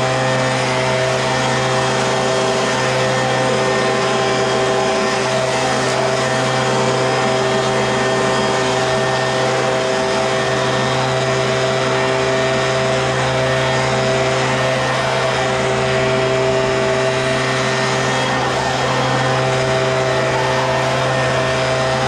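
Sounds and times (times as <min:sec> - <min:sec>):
leaf blower engine drone: 0:00.0 - 0:22.0.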